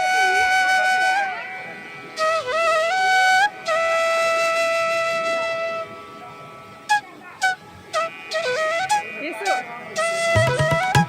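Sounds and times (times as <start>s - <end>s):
flute playing slow notes: 0.0s - 11.0s.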